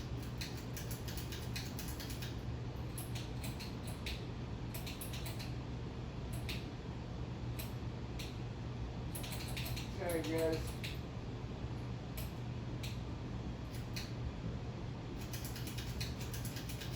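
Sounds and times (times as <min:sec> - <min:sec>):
ceiling fan clicks and creaks: 0:00.0 - 0:14.4, 0:15.1 - 0:16.9
ceiling fan low hum: 0:00.0 - 0:16.9.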